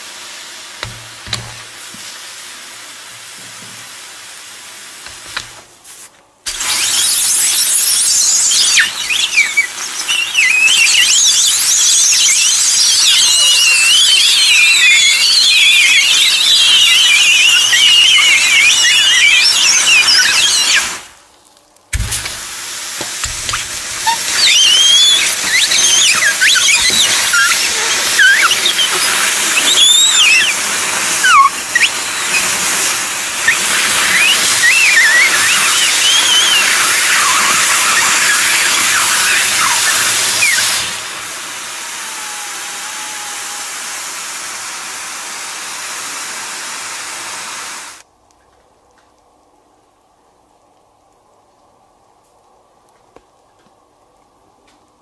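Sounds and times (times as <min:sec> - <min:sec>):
steam squealing and whistling: 0:00.0 - 0:05.6, 0:06.5 - 0:21.2, 0:22.0 - 0:48.0
juice boiling with a hiss: 0:00.0 - 0:55.0.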